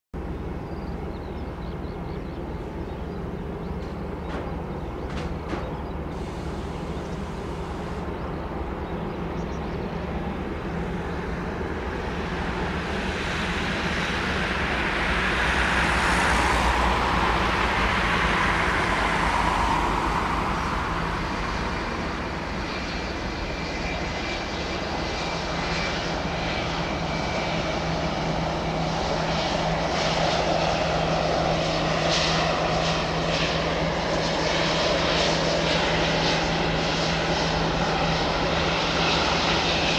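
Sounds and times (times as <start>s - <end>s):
jet engines rushing: 0.2s - 39.9s.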